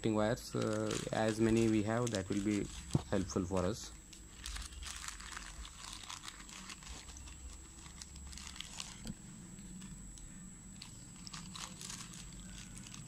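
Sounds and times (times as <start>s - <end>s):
plastic bag crinkling: 0.0s - 10.0s, 10.8s - 13.0s.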